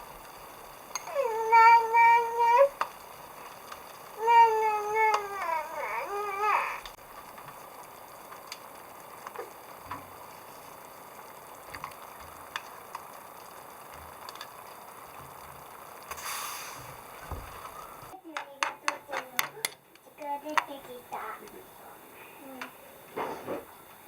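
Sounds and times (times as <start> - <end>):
campfire hiss and crackles: 0.0 - 24.0.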